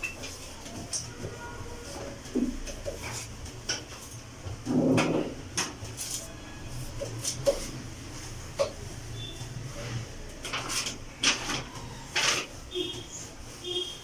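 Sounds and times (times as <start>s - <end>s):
cloth rubbing on cooker: 0.4s - 14.0s.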